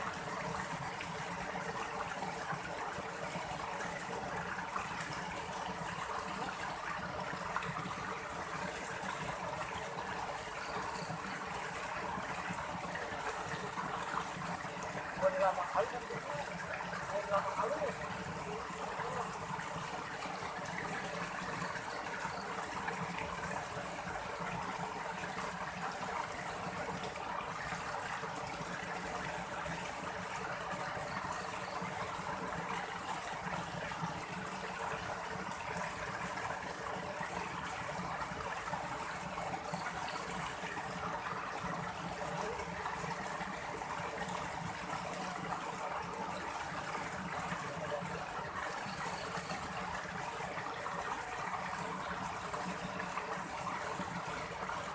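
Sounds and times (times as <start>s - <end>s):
steady water noise: 0.0s - 54.9s.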